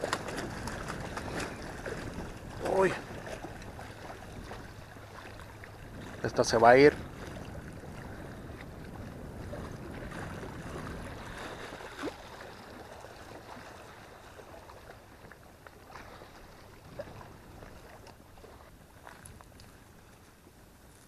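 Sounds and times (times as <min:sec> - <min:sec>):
wind on microphone: 0:00.0 - 0:14.0, 0:16.0 - 0:21.0
lake water lapping: 0:00.0 - 0:21.0.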